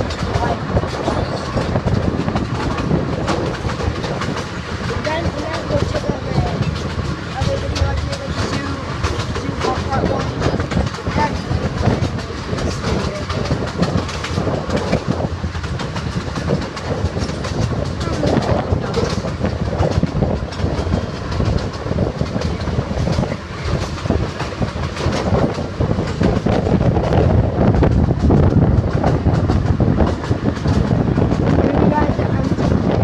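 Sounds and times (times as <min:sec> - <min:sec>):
ride train rumbling on track: 0:00.0 - 0:33.0
wheels rattling and clacking: 0:00.0 - 0:33.0.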